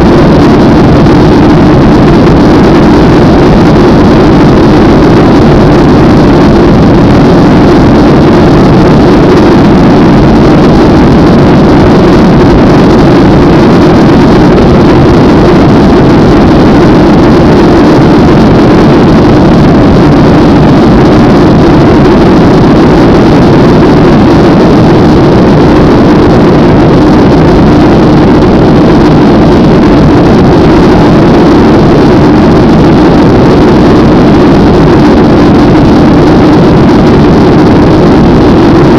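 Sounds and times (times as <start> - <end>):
jet engines droning: 0.0 - 38.9.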